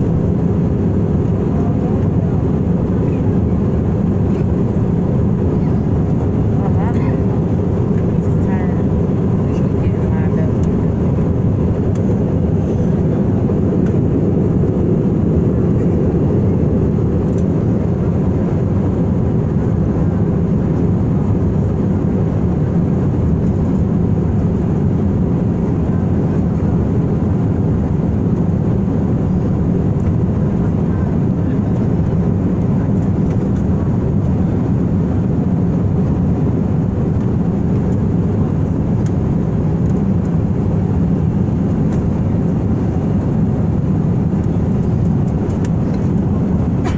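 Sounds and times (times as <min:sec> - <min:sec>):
airliner cabin engine roar: 0:00.0 - 0:46.9.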